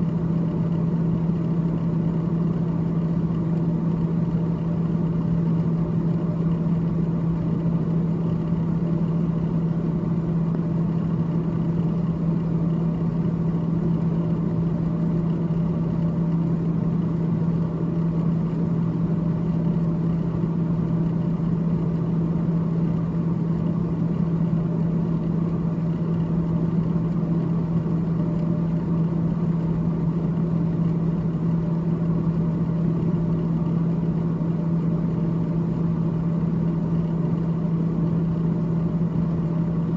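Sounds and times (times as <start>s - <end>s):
refrigerator fan humming: 0.0s - 39.9s.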